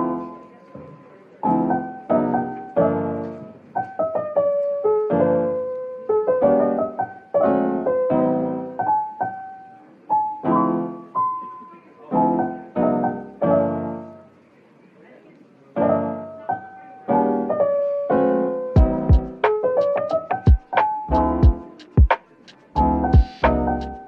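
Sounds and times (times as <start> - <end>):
slow piano music: 0.0 - 14.5, 15.7 - 24.0.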